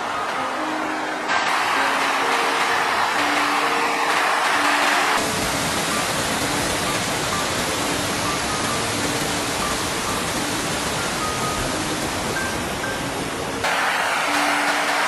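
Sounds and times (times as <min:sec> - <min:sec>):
faint music: 0:00.0 - 0:15.0
rushing water: 0:00.0 - 0:15.0.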